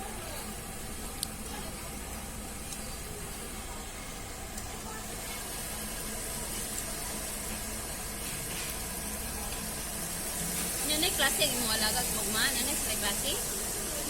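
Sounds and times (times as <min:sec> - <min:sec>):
food sizzling in a pan: 0:00.2 - 0:14.0.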